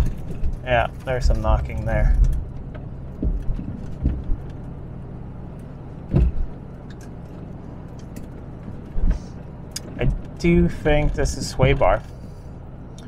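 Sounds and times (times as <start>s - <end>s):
car suspension knocking: 0.0s - 4.8s, 6.0s - 12.2s
road rumble inside car: 0.0s - 13.0s.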